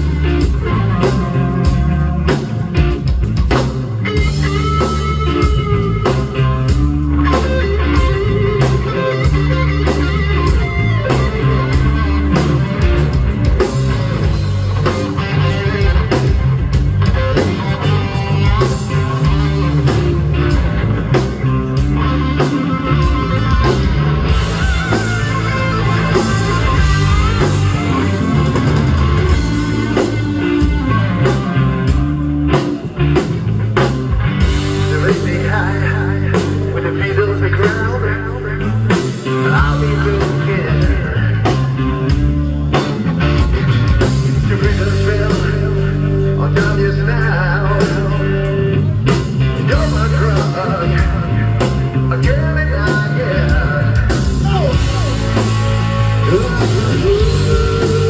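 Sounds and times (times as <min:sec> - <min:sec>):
rock band playing: 0:00.0 - 0:58.0
wavering lead guitar line: 0:00.0 - 0:58.0.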